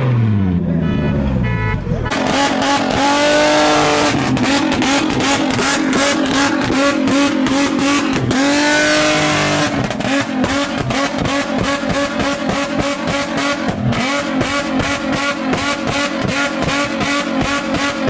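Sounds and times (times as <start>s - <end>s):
car engine revving: 0.0s - 18.0s
exhaust pops crackling: 1.8s - 18.0s.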